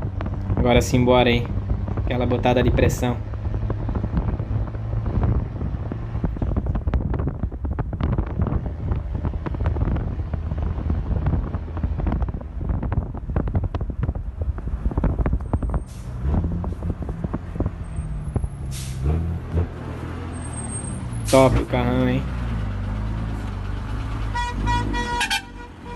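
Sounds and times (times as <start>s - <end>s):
diesel truck accelerating: 0.0s - 25.9s.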